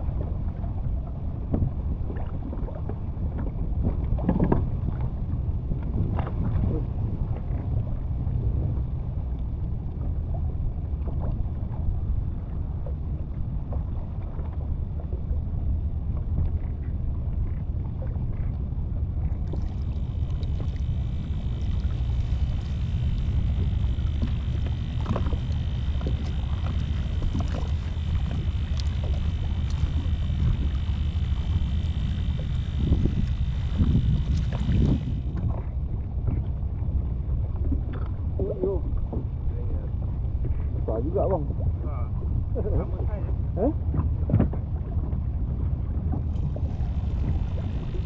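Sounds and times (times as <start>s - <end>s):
water lapping against hull: 0.0s - 48.0s
wind rumble on microphone: 0.0s - 48.0s.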